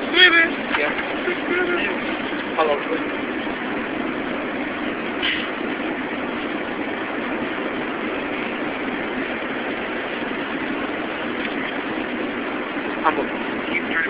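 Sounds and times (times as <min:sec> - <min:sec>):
airliner cabin roar: 0:00.0 - 0:14.0.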